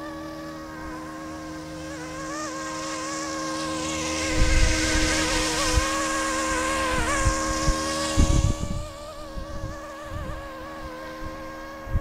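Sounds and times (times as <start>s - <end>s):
toy helicopter motor whine: 0.0s - 12.0s
low rumbling noise: 0.6s - 12.0s.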